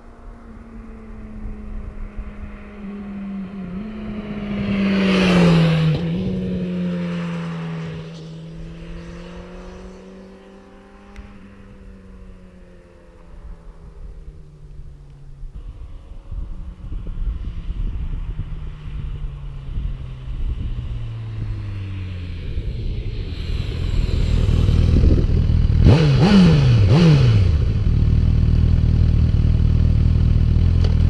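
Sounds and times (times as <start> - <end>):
motorcycle riding past: 0.0 - 31.0.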